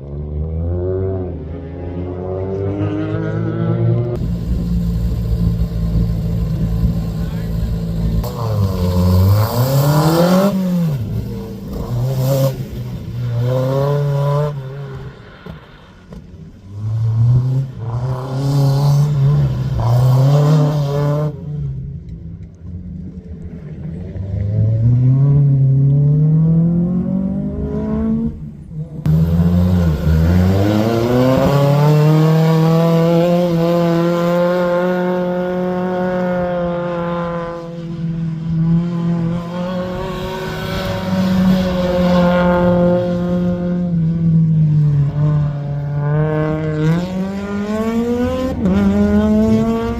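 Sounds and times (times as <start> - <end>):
rally car engine revving: 0.0 - 15.6, 16.5 - 22.0, 23.5 - 49.9.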